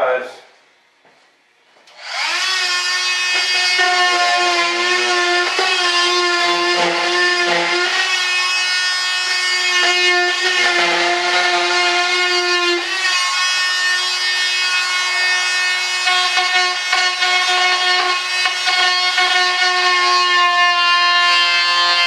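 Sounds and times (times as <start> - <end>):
power cutting tool whining: 1.9 - 22.0.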